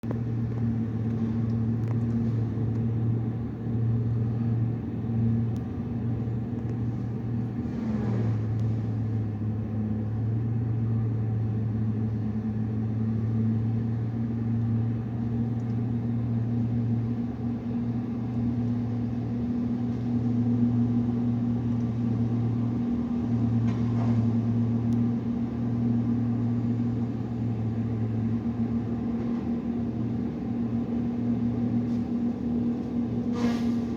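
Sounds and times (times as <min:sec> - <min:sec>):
machine engine running steadily: 0:00.0 - 0:33.9.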